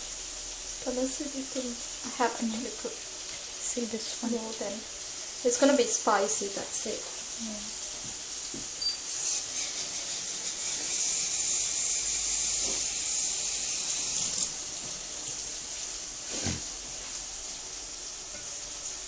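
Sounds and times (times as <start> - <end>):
onions frying in oil: 0.0 - 19.0.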